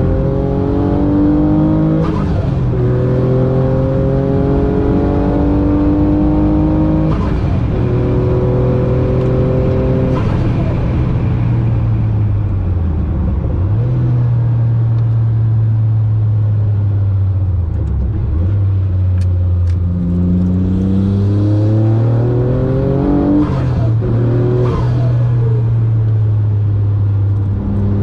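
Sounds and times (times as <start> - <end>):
car engine revving in cabin: 0.0 - 28.0.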